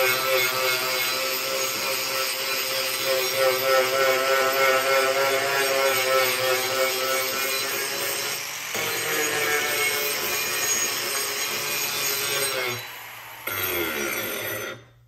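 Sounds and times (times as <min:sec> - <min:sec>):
angle grinder whining cutting wood: 0:00.0 - 0:15.0.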